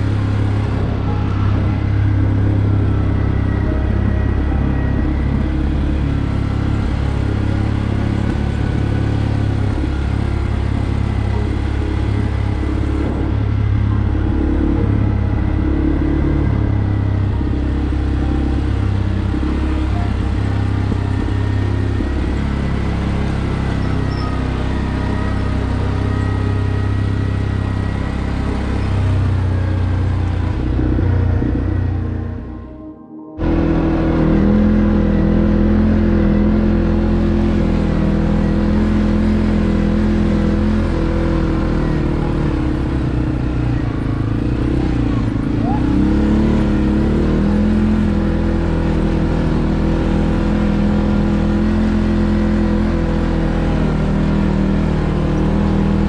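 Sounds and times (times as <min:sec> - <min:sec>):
atv engine running under load: 0:00.0 - 0:32.6, 0:33.4 - 0:56.0.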